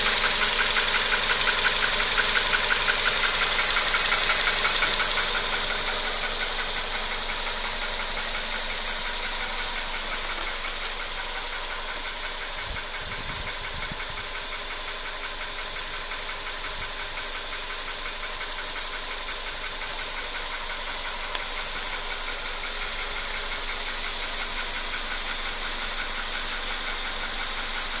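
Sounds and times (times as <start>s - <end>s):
car engine knocking: 0.0s - 28.0s.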